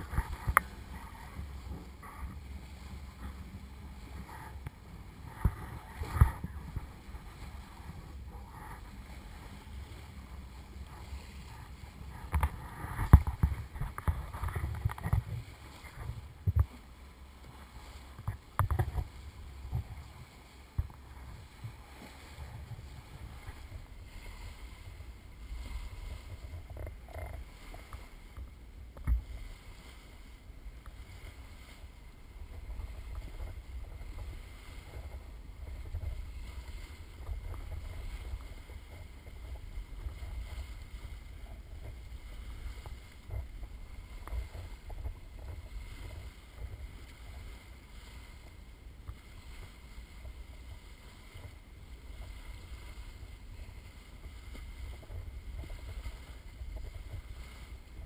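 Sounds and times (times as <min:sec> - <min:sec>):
wind and water rushing: 0:00.0 - 0:58.0.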